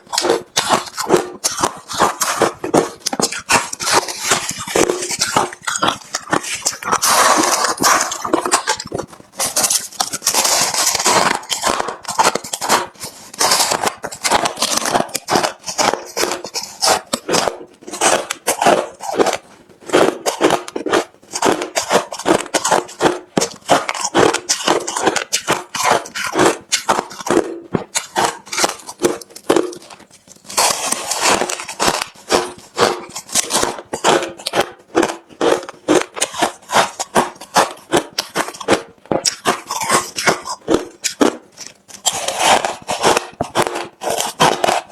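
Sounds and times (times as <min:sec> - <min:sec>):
chewing crunching ice: 0:00.0 - 0:44.9.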